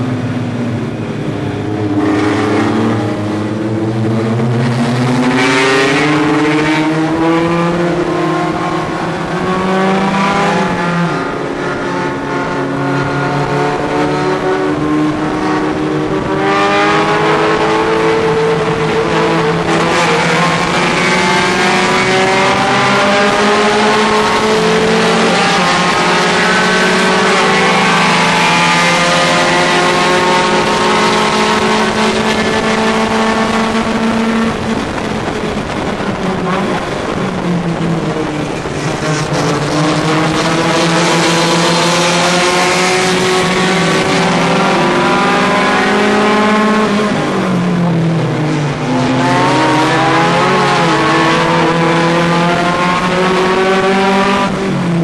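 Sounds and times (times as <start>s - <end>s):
race car engine from inside: 0.0s - 55.0s.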